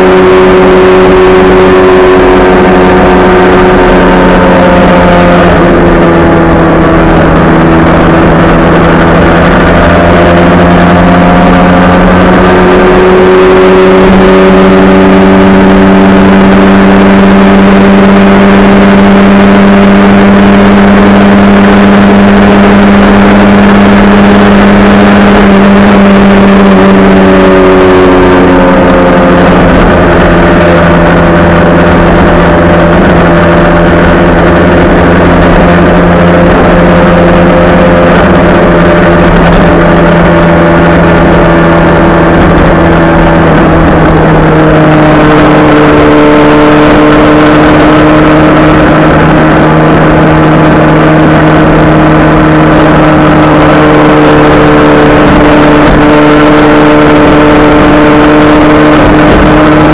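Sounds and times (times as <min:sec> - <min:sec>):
loud wind and road noise: 0:00.0 - 0:59.9
motorcycle engine cruising: 0:00.0 - 0:59.9.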